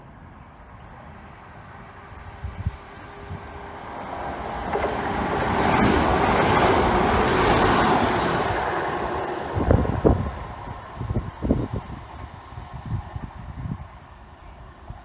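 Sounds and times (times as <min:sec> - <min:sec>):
diesel train passing: 0:00.1 - 0:15.0.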